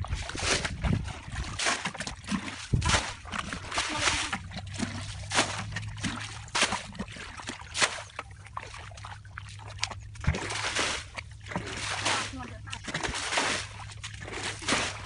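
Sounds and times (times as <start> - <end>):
bucket throwing water splashes: 0.0 - 15.0
muddy water sloshing: 0.0 - 15.0.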